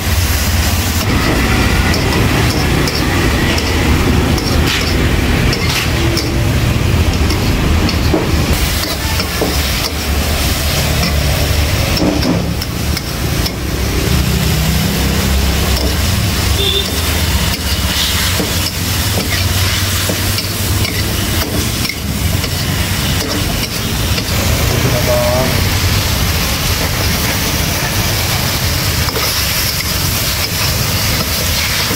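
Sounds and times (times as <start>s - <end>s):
gas burner low rumble: 0.0s - 31.9s
meat sizzling in a wok: 0.0s - 31.9s
metal spatula scraping wok: 0.2s - 31.9s.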